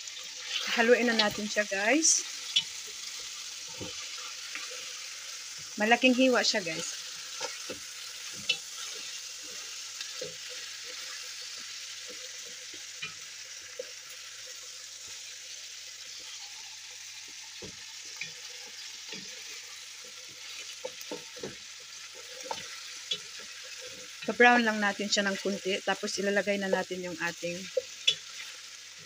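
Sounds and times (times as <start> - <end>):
meat and onions sizzling in pot: 0.0 - 29.0.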